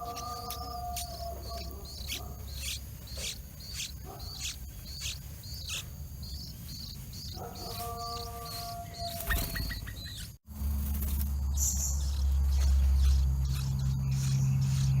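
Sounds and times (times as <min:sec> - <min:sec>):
small bird alarm chirps: 0:00.0 - 0:15.0.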